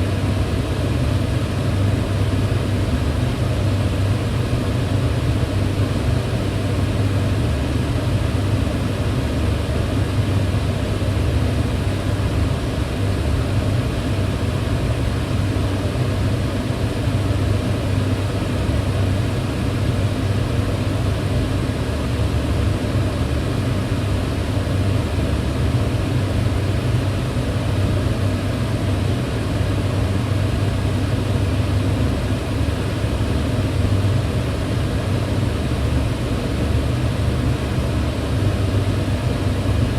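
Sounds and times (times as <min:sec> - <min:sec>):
range hood fan running: 0:00.0 - 0:39.9.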